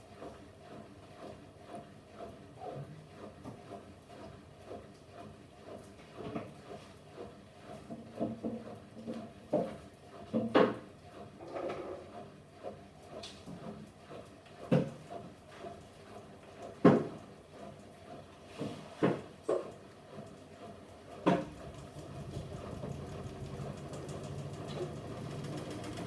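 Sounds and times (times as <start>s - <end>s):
washing machine running hum: 0.0s - 26.0s.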